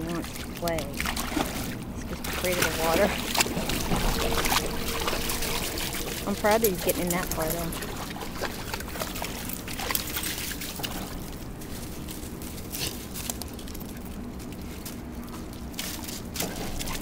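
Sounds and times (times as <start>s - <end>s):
river water trickling and splashing: 0.0s - 17.0s.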